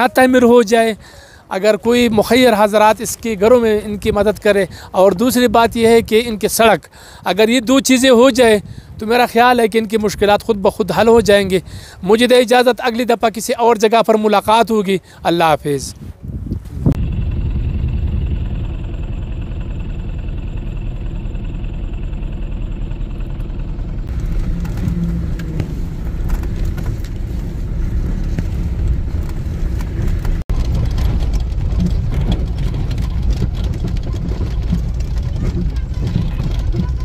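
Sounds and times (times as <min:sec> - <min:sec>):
vehicle engine rumbling: 0:00.0 - 0:13.8, 0:14.4 - 0:37.0.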